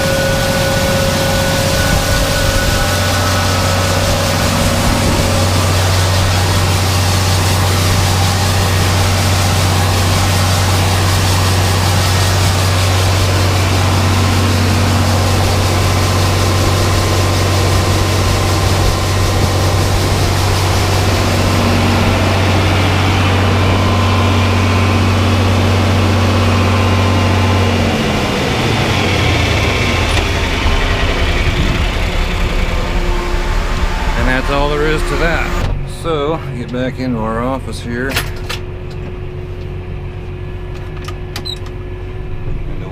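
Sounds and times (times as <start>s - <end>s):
heavy engine running: 0.0s - 42.9s.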